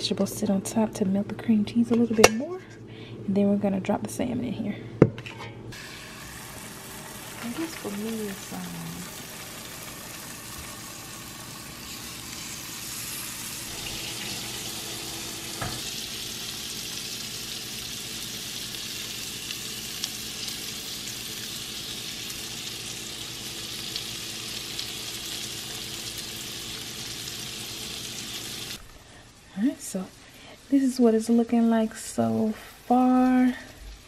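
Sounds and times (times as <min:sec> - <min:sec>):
food sizzling in a frying pan: 0:05.8 - 0:34.0.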